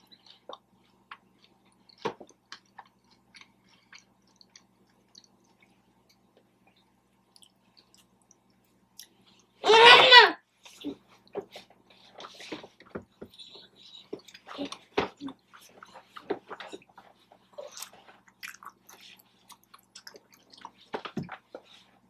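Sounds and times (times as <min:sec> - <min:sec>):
close chewing mouth smacks: 0:00.0 - 0:09.5, 0:13.3 - 0:21.8.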